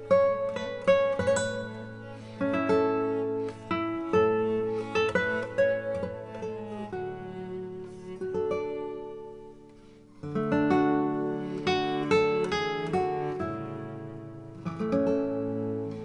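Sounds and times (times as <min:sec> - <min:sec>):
acoustic guitar plucking: 0:00.0 - 0:16.0.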